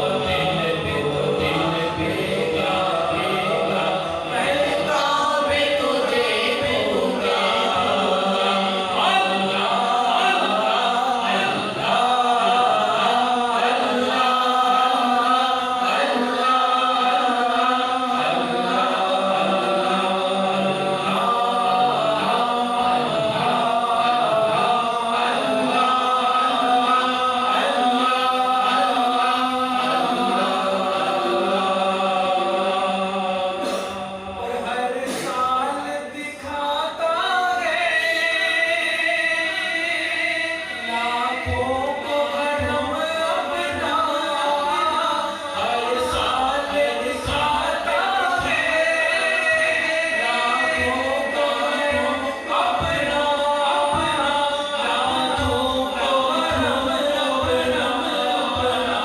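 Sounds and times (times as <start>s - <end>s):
echoing backing vocals: 0.0s - 59.0s
man singing a cappella: 0.0s - 59.0s.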